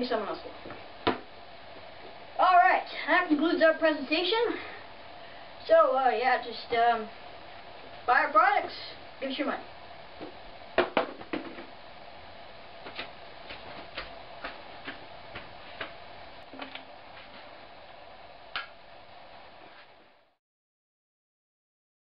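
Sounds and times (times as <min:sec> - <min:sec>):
room tone hum: 0:00.0 - 0:20.4.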